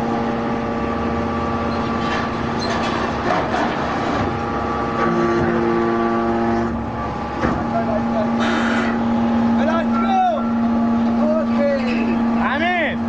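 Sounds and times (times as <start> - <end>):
hydraulic baler hum: 0.0 - 13.0.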